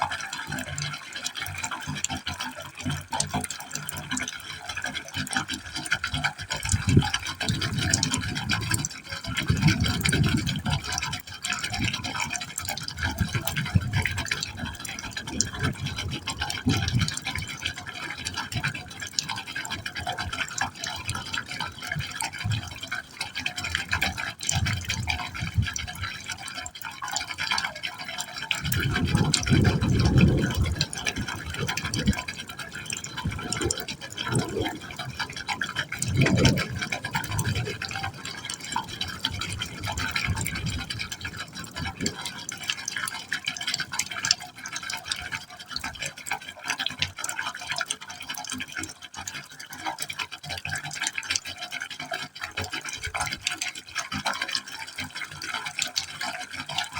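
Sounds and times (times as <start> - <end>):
water splashing and gurgling in pipe: 0.0 - 56.9.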